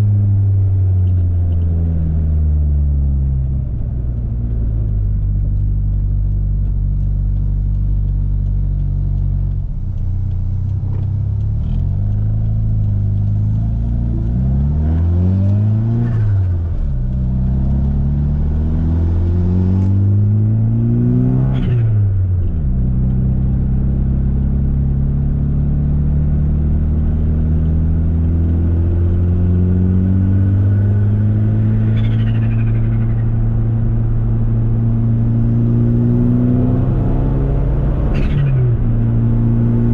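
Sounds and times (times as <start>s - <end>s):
turbocharged car engine revving: 4.2s - 39.9s.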